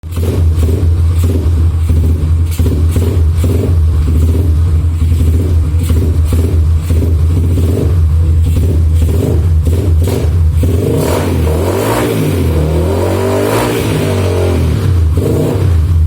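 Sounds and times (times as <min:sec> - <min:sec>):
motorbike engine revving: 0:00.0 - 0:16.0.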